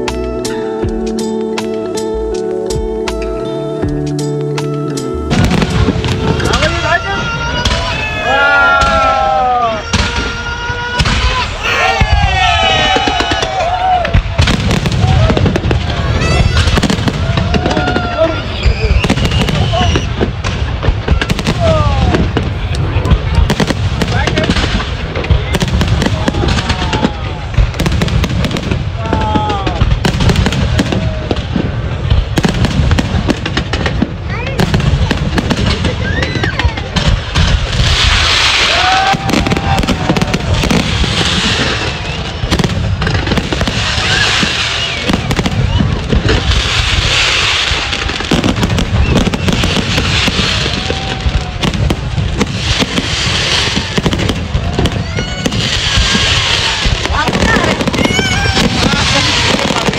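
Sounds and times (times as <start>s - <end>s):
fireworks cracking and banging: 5.3s - 59.9s.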